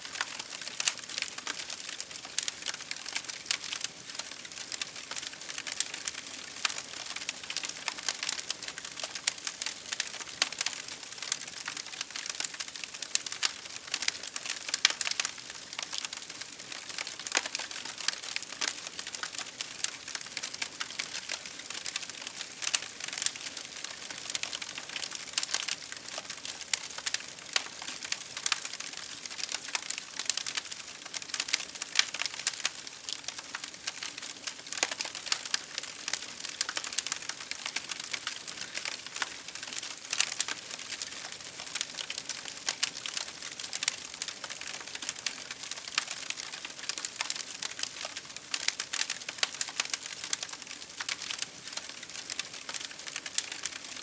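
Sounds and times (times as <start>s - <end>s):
fire crackling: 0.1s - 53.9s.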